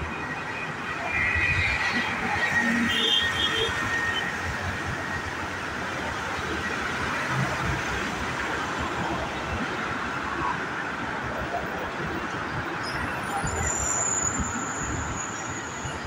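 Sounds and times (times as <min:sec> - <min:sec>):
highway traffic roar: 0:00.0 - 0:16.0.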